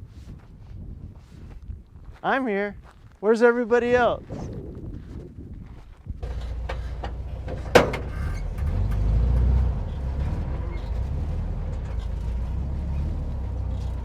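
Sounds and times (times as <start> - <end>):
strong wind buffeting microphone: 0.0 - 12.5.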